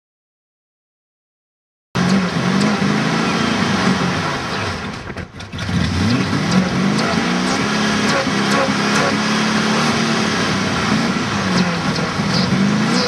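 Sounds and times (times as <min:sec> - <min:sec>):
car engine revving high: 0:02.0 - 0:13.0.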